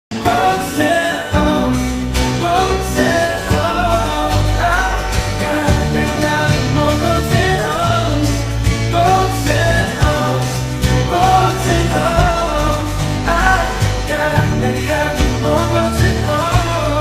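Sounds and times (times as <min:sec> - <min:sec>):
song with bass and drums: 0:00.2 - 0:17.0.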